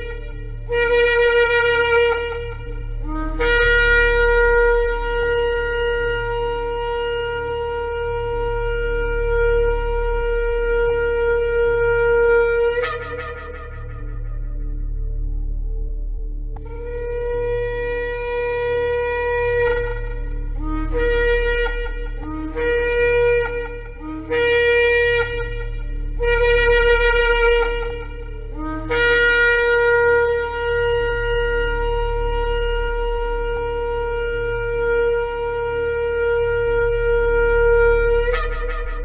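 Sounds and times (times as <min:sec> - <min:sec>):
ram's horn blasts: 0:00.0 - 0:15.9, 0:16.5 - 0:39.0.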